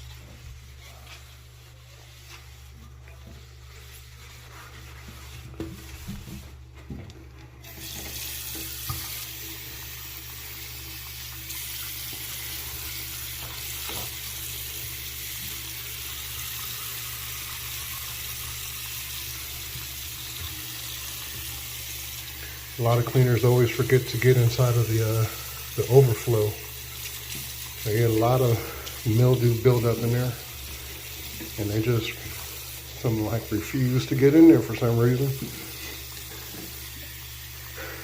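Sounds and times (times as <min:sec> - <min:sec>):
tap water running into basin: 0:00.0 - 0:38.0.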